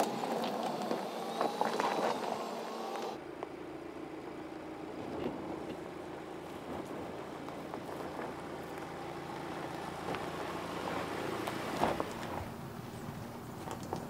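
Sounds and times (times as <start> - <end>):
tyres crunching on stones: 0.0 - 3.2, 5.0 - 14.0
low vehicle hum: 0.0 - 14.0.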